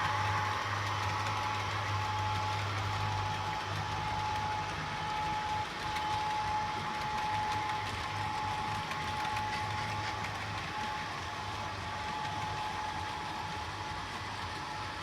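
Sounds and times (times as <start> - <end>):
model train high whine: 0.0 - 15.0.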